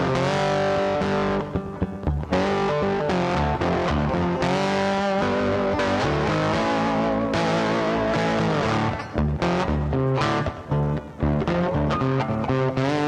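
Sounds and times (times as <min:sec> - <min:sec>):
distorted electric guitar music: 0:00.0 - 0:13.0.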